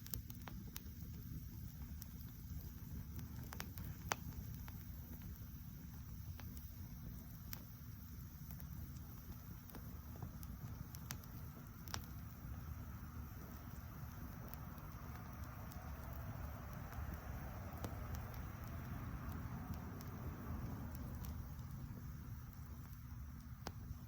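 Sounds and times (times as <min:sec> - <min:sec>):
campfire crackling and popping: 0:00.0 - 0:24.0
low steady rumble: 0:00.0 - 0:24.0.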